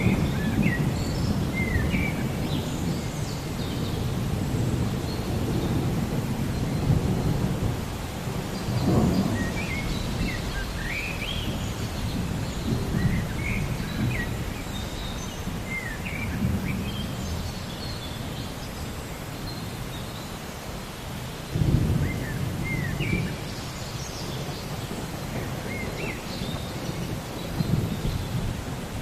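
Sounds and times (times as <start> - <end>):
rolling thunder rumble: 0.0 - 18.8, 21.5 - 29.0
rain: 0.0 - 29.0
songbirds chirping: 0.0 - 29.0.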